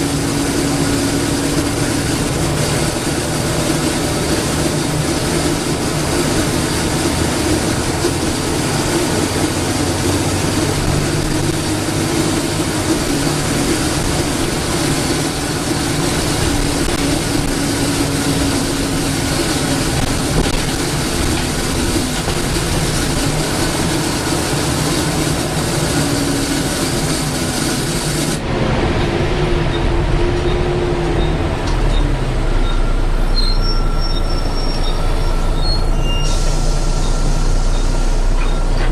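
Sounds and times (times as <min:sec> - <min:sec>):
diesel bus engine: 0:00.0 - 0:38.9.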